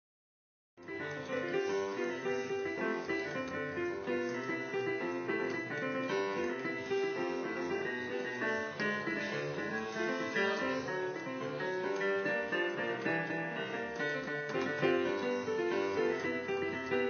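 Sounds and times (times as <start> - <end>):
digital piano salsa medley: 0.8 - 17.0.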